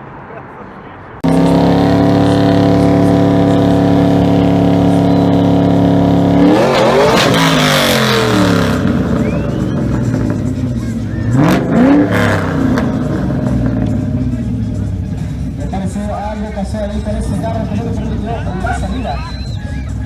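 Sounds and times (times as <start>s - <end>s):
car engine revving: 0.0s - 20.0s
noisy rush: 0.0s - 20.0s.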